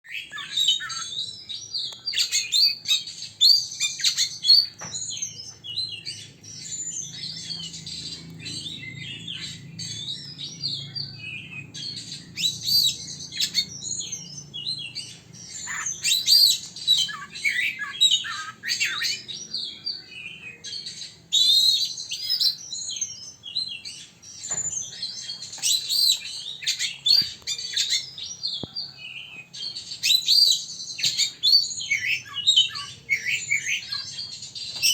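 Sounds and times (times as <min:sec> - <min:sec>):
songbird chirping and twittering: 0:00.0 - 0:34.9.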